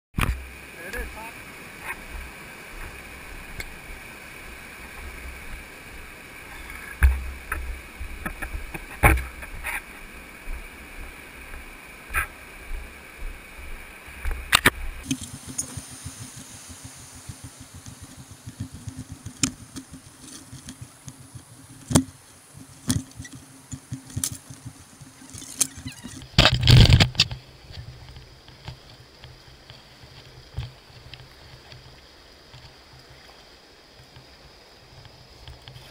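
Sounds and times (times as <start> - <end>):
muffled river water rushing: 0.2 - 35.9.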